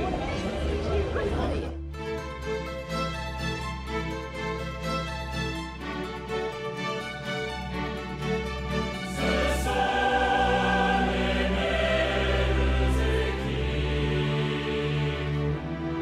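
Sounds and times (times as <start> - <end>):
choir-like music: 0.0 - 16.0.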